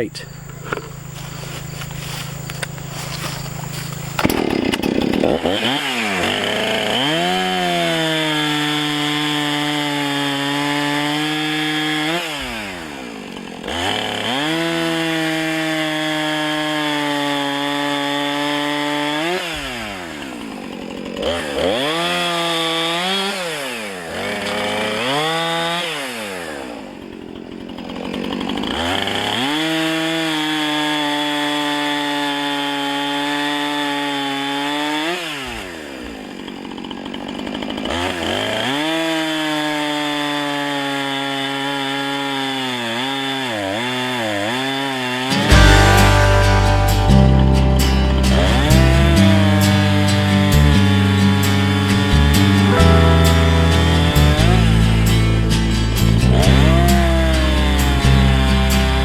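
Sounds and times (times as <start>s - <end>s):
chainsaw revving and cutting wood: 1.0s - 59.0s.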